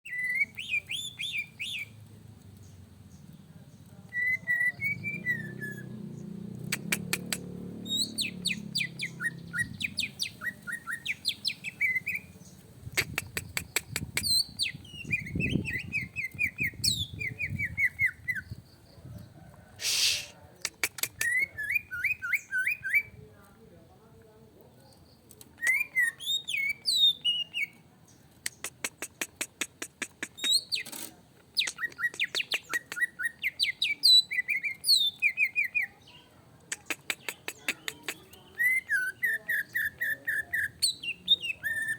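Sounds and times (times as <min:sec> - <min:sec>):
bird singing: 0:00.0 - 0:12.8, 0:13.6 - 0:20.3, 0:21.2 - 0:23.2, 0:24.8 - 0:28.7, 0:31.6 - 0:36.4, 0:37.2 - 0:41.9.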